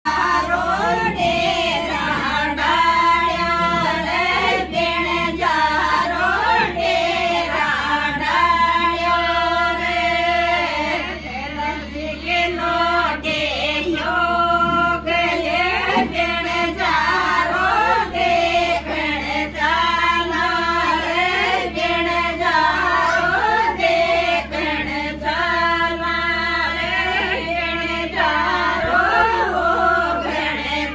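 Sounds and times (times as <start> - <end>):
women singing in unison: 0.1 - 30.9.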